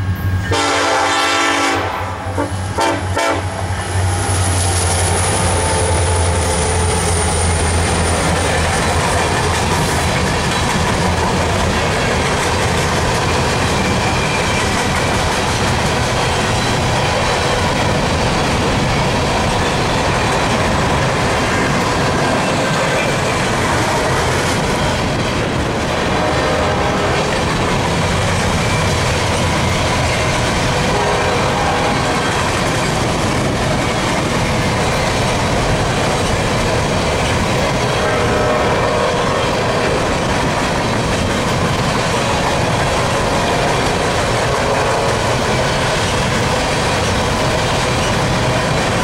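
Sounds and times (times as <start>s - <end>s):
train wheels rumbling and clattering: 0.0s - 49.0s.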